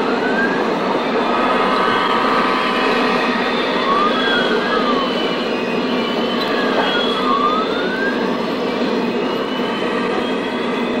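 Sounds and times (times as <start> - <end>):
model trains running: 0.0 - 11.0
siren wailing: 0.0 - 11.0.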